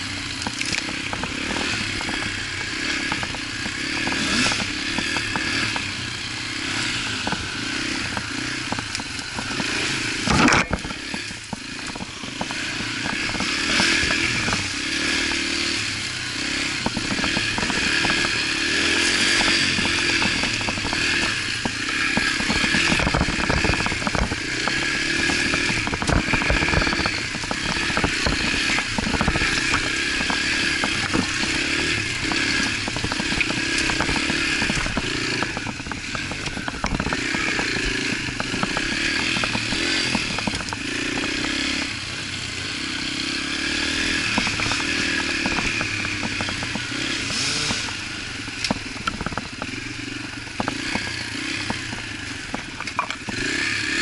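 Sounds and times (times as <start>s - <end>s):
bike knocking and rattling: 0.0s - 54.0s
dirt bike engine running: 0.0s - 54.0s.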